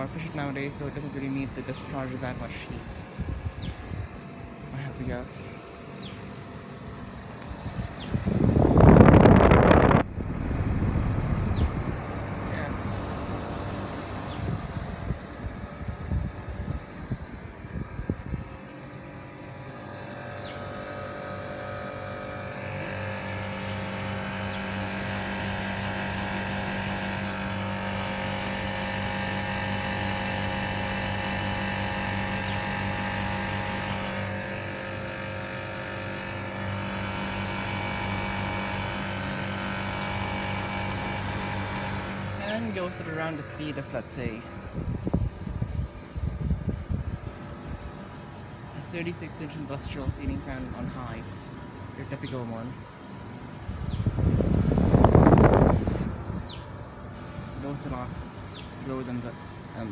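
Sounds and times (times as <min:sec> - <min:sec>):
air conditioner hum and fan whoosh: 0:00.0 - 0:59.9.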